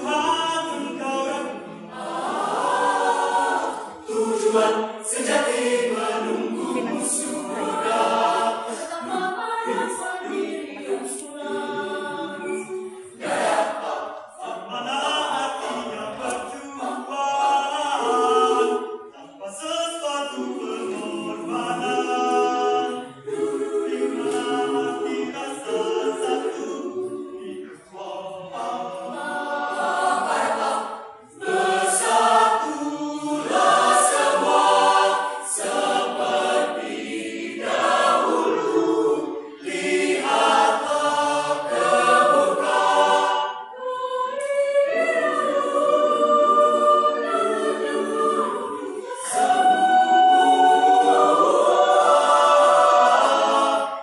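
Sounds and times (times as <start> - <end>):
mixed choir singing in harmony: 0.0 - 54.0.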